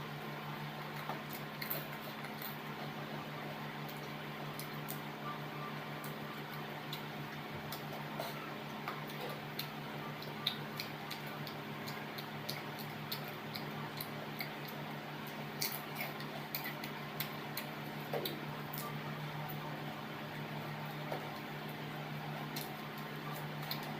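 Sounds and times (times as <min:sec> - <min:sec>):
steady low hum: 0:00.0 - 0:23.9
chewing clicks and smacks: 0:00.8 - 0:02.9, 0:03.8 - 0:05.4, 0:06.0 - 0:19.6, 0:20.8 - 0:23.9.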